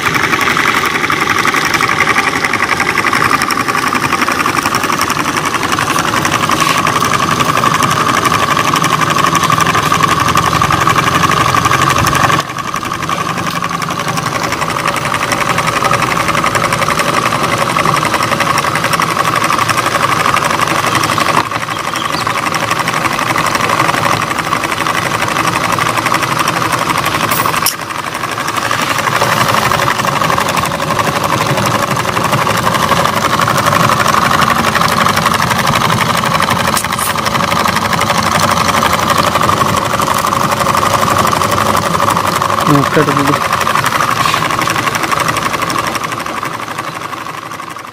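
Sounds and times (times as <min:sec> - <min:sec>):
model engine whirring with whine: 0:00.0 - 0:47.9.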